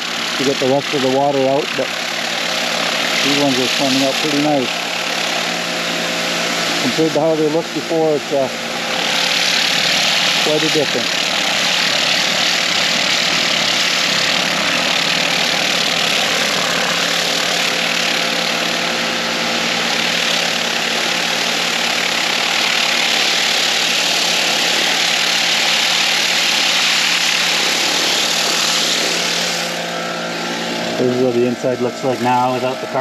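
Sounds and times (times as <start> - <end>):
pressure washer spraying: 0.0 - 33.0.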